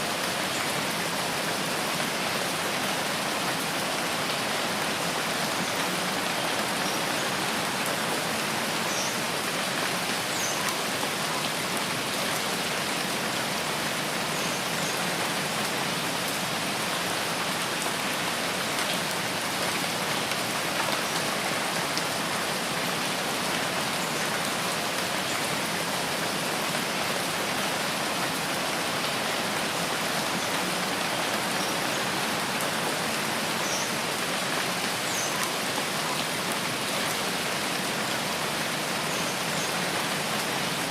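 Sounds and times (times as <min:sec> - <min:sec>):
rain falling in forest: 0:00.0 - 0:40.9.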